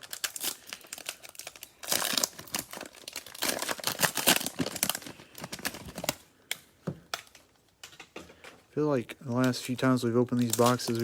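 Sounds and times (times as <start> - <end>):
cellophane wrapper crinkling and tearing: 0.0 - 7.9, 9.3 - 11.0.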